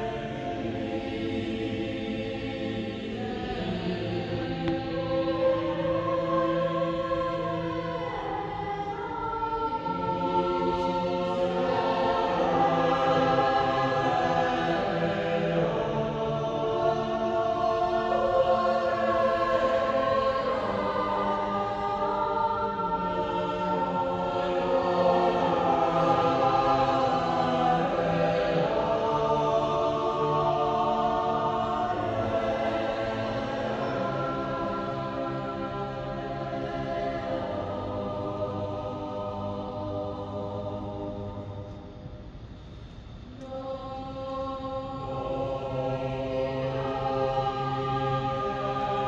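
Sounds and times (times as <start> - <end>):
unaccompanied choir singing: 0.0 - 42.4, 43.1 - 49.0.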